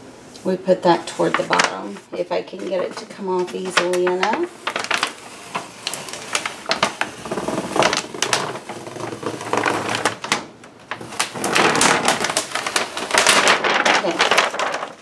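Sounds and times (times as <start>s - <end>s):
vinyl sheet peeling and crinkling: 0.4s - 15.0s.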